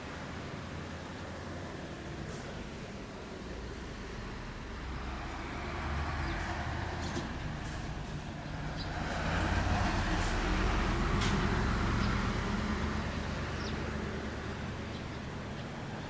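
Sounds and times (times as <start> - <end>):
vehicle passing with low rumble: 0.0 - 16.0.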